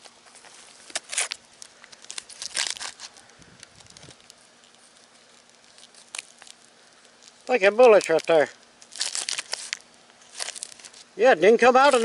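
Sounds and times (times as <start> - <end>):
foil packaging crinkling: 0.0 - 12.0.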